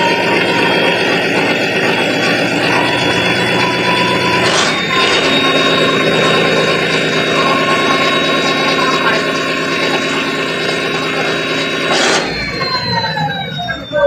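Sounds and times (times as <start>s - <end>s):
diesel engine running: 0.0s - 14.0s
high-pitched whine: 0.0s - 14.0s.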